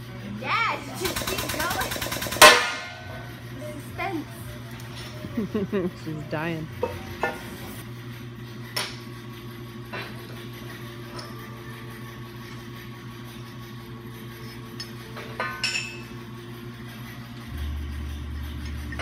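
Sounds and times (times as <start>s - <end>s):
low shop hum: 0.0s - 19.0s.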